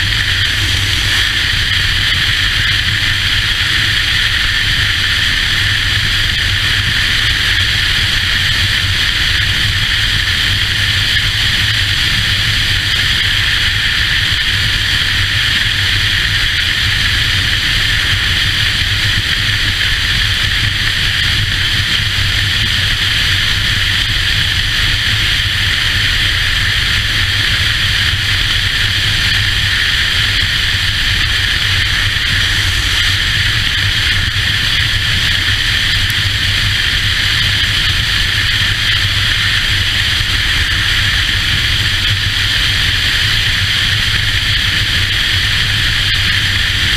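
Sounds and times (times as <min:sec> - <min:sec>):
motorcycle engine rumble: 0:00.0 - 0:14.2, 0:15.1 - 0:46.7
wind noise on microphone: 0:00.0 - 0:46.9.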